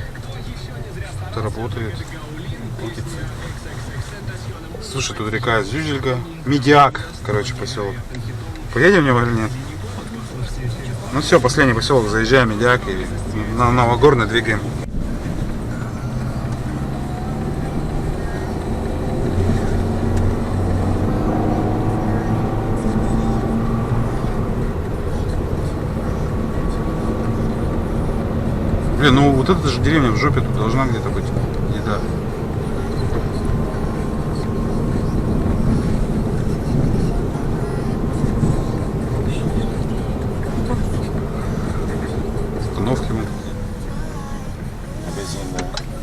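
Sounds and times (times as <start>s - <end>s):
car engine drone: 0.0s - 46.0s
tyre and road noise: 0.0s - 46.0s.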